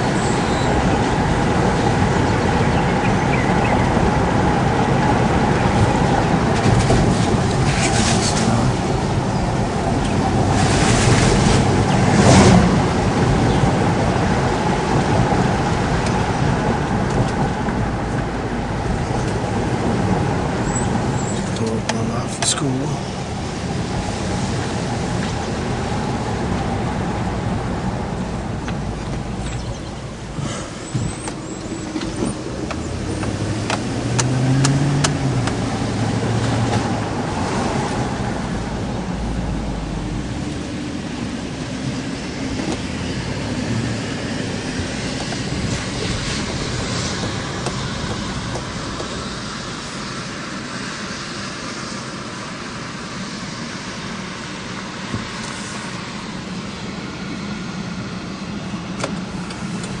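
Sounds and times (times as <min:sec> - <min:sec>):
vehicle passing: 0:00.0 - 0:50.3
road traffic rumble: 0:00.0 - 1:00.0.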